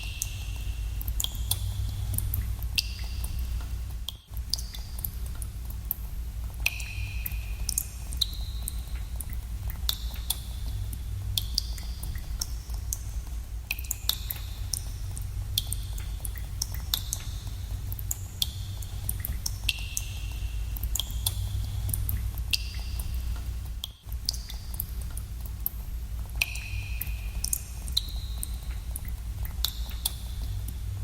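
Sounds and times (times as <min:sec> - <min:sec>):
steady low rumble: 0:00.0 - 0:31.0
water drops plinking in cave: 0:00.0 - 0:31.0.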